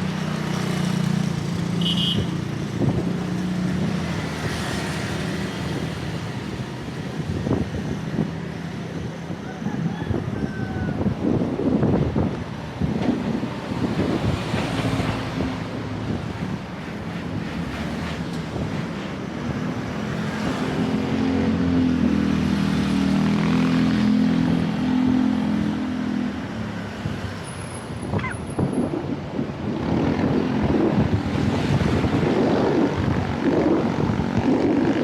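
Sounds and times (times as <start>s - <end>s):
road traffic: 0.0s - 35.0s
wind buffeting microphone: 2.3s - 22.7s, 23.3s - 35.0s.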